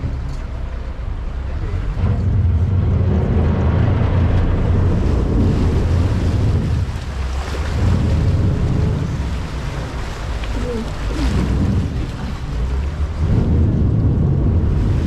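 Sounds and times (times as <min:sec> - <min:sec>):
boat engine rumbling: 0:00.0 - 0:15.0
water wash: 0:00.0 - 0:15.0
wind buffeting microphone: 0:00.0 - 0:15.0.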